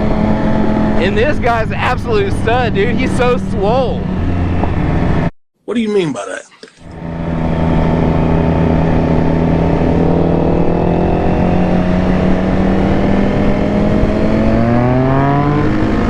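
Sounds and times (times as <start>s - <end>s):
motorcycle engine running: 0.0s - 5.3s, 6.8s - 16.0s.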